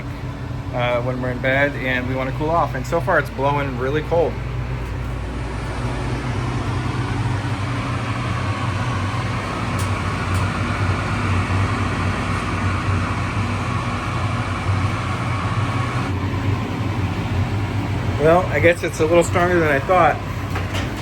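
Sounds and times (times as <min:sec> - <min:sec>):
air conditioner fan rush: 0:00.0 - 0:21.0
low even hum: 0:00.0 - 0:21.0.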